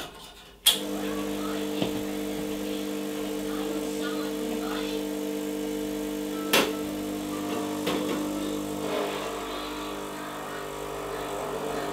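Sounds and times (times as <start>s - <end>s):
espresso machine pump buzzing: 0.7s - 11.9s.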